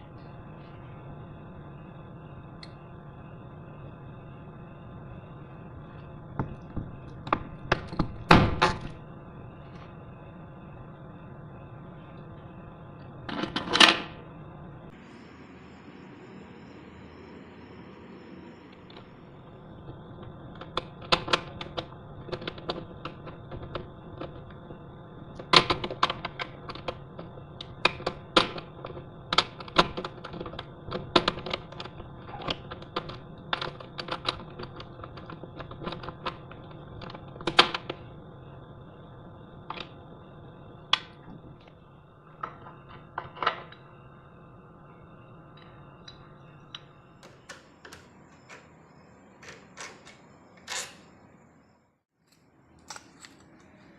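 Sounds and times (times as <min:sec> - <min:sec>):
steady machine hum: 0:00.0 - 0:53.9.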